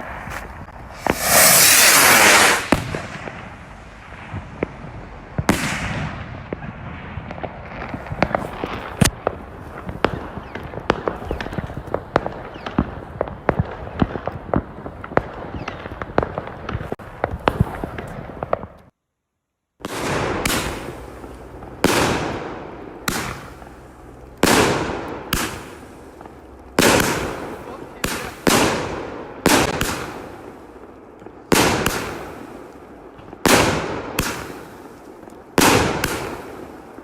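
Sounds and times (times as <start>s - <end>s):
echoing firework bangs: 0.0s - 18.8s, 19.8s - 23.8s, 24.4s - 37.0s
fireworks crackling: 0.0s - 19.0s, 19.8s - 37.0s.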